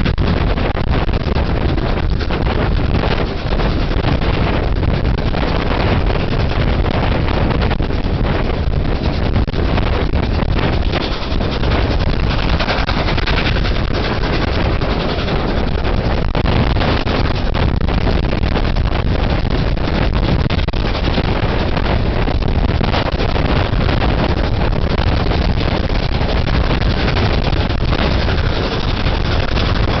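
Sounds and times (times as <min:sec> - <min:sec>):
steam train running: 0:00.0 - 0:30.0
wind buffeting microphone: 0:00.0 - 0:30.0.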